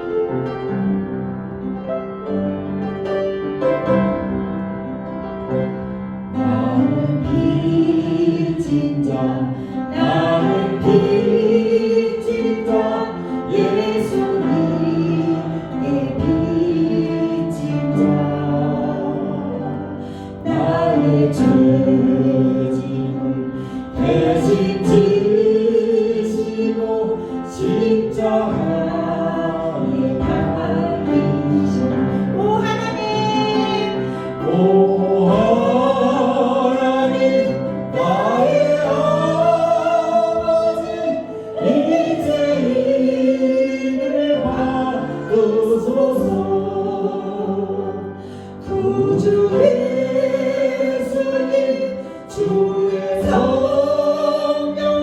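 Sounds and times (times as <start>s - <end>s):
congregation singing: 0.0s - 1.9s, 2.5s - 55.0s
keyboard accompaniment: 0.0s - 55.0s.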